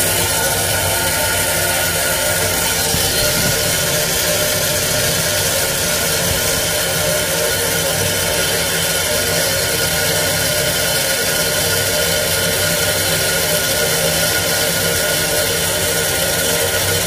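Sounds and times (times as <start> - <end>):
water rushing into boiler: 0.0 - 17.0.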